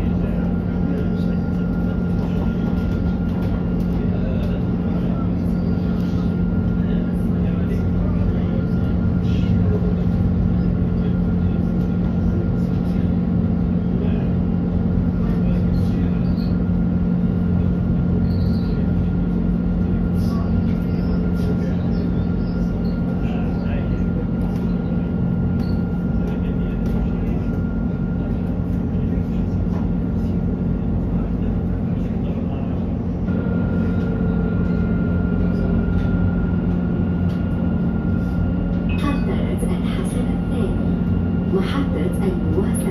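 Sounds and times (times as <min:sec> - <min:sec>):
thin steady whine: 0:00.0 - 0:42.9
tram hum: 0:00.0 - 0:42.9.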